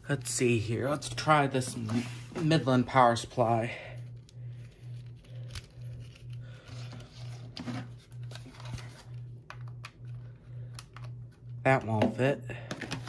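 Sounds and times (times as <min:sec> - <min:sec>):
pulsing low hum: 0:00.0 - 0:13.0.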